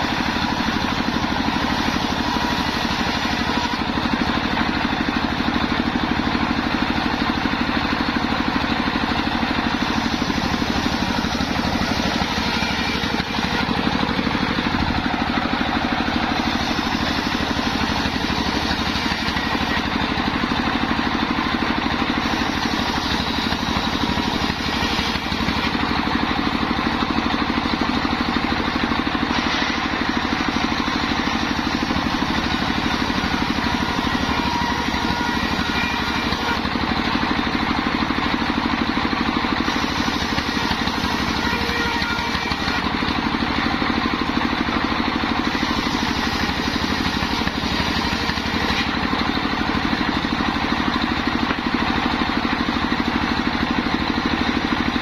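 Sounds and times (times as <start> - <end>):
circular saw engine running: 0.0 - 55.0.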